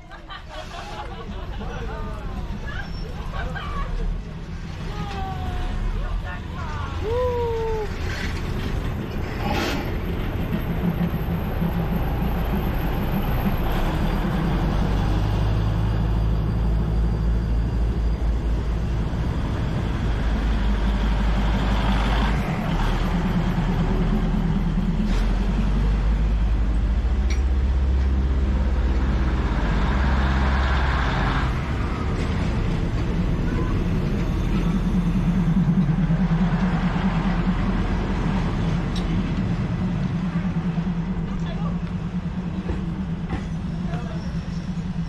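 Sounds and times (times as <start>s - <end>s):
diesel train engine droning: 0.0s - 45.0s.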